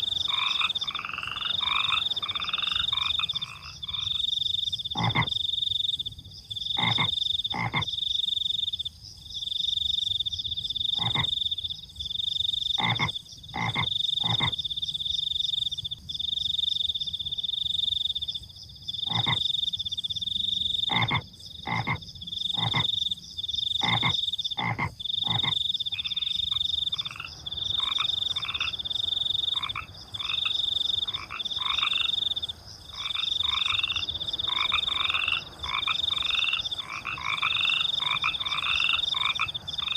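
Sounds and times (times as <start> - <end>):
crickets trilling: 0.0 - 39.9
frogs croaking: 0.0 - 39.9.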